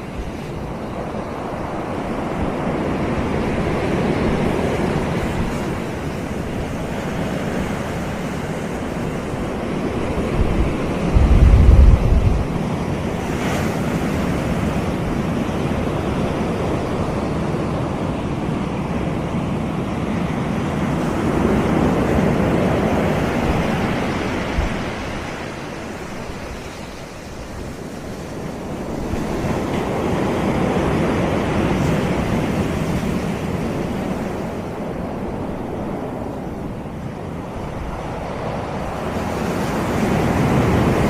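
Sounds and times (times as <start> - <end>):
waves washing on sandy beach: 0.0 - 41.0.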